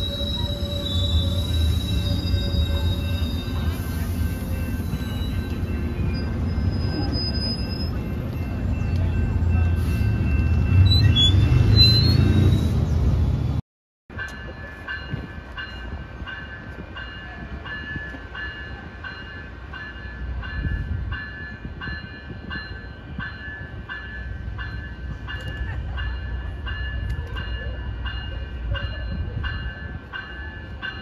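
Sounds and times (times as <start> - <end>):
crossing bell ringing: 0.0 - 12.6, 14.1 - 31.0
train rumbling: 0.0 - 31.0.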